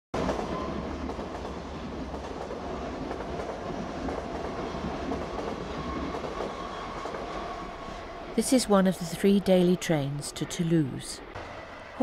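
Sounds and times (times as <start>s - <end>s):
train wheels rumbling on rails: 0.2s - 12.0s.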